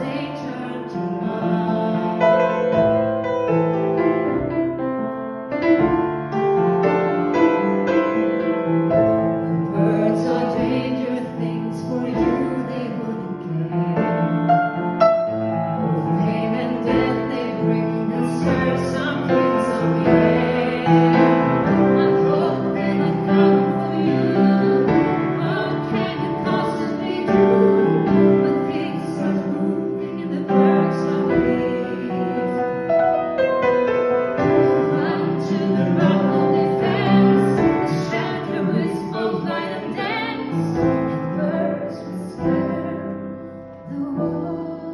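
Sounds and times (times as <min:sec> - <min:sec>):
person singing: 0:00.0 - 0:02.8, 0:09.6 - 0:33.1, 0:34.4 - 0:44.9
piano playing: 0:00.0 - 0:44.9.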